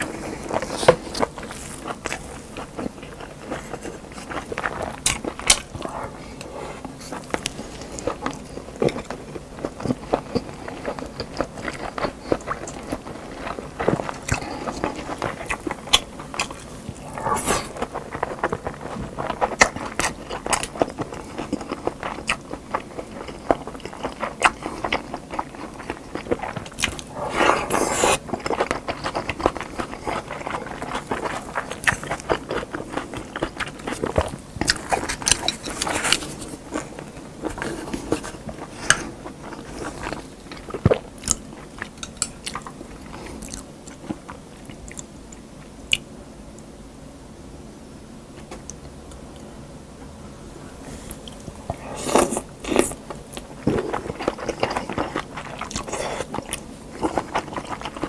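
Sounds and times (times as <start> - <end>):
wet chewing and mouth noises: 0.0 - 46.1, 51.1 - 58.0.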